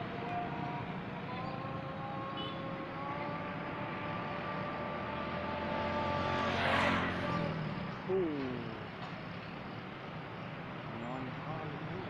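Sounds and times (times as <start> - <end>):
road noise rush: 0.0 - 12.0.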